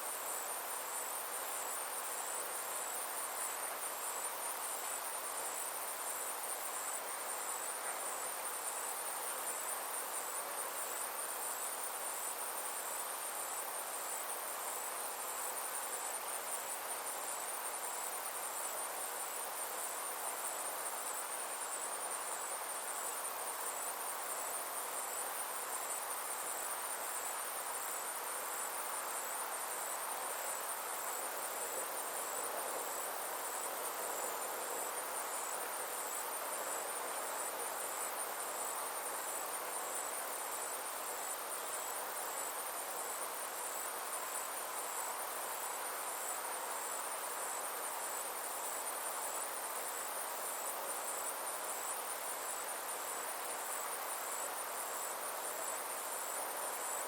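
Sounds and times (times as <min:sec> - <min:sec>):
insect chorus trilling: 0:00.0 - 0:57.0
soft even hiss: 0:00.0 - 0:57.0.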